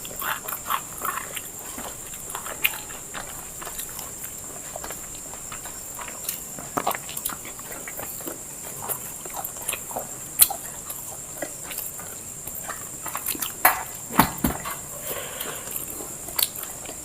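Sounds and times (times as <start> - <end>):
wet chewing and lip-smacking: 0.0 - 17.0.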